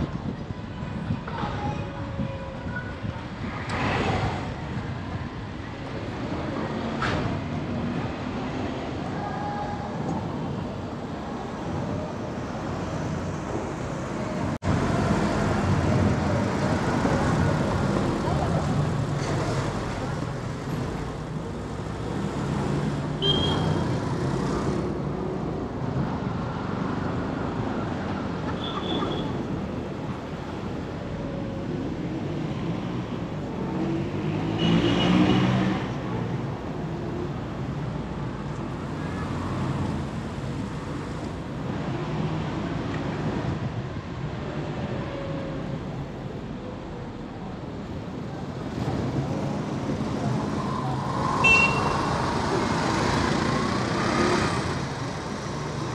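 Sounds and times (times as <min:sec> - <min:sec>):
car and truck engines passing: 0:09.8 - 0:55.9.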